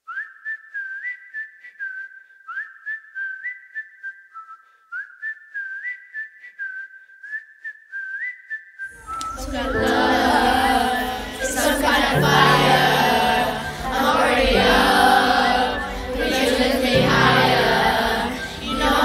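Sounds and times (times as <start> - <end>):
whistled melody: 0.0 - 19.0.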